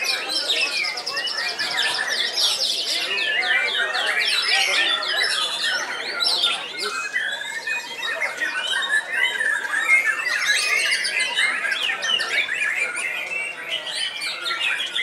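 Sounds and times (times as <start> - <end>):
birds whistling and trilling: 0.0 - 15.0.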